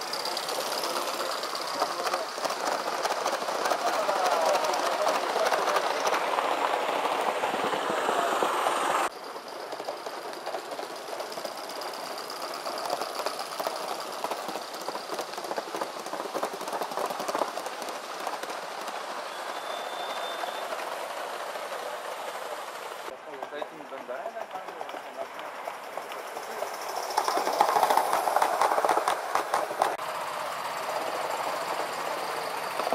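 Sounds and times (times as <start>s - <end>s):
model train wheels clicking on rails: 0.0s - 32.9s.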